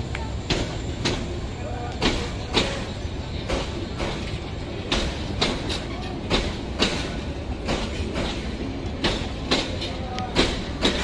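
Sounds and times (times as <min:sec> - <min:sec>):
low train rumble: 0:00.0 - 0:11.0
train wheels clacking over joints: 0:00.0 - 0:11.0.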